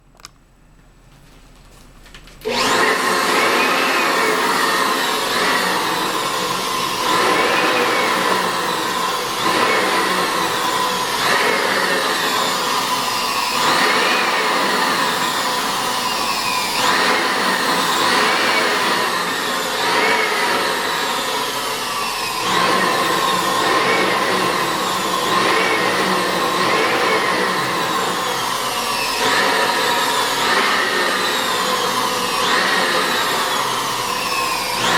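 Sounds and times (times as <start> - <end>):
electric air pump running: 2.4 - 34.9.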